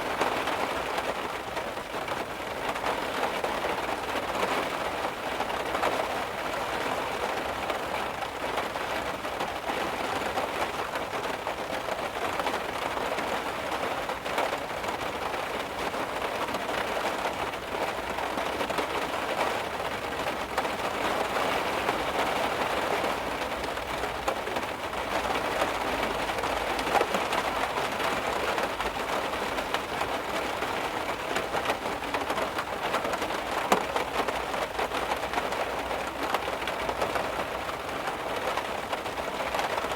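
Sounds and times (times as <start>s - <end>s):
heavy rain drumming on a car: 0.0s - 39.9s.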